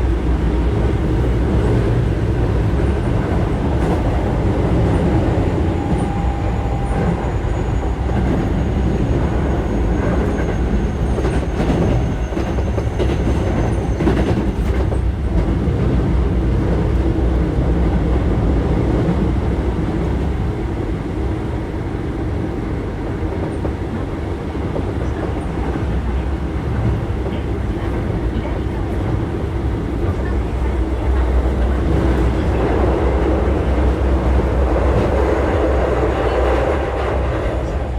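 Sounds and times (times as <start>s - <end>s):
train wheels rumbling on rail: 0.0s - 37.9s.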